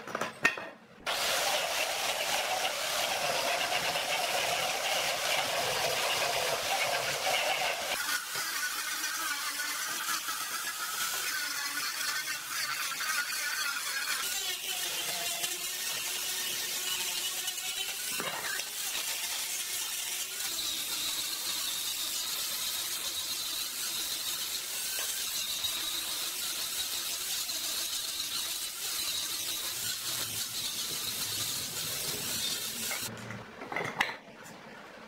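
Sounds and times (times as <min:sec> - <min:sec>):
angle grinder sanding wood: 0:01.1 - 0:33.1.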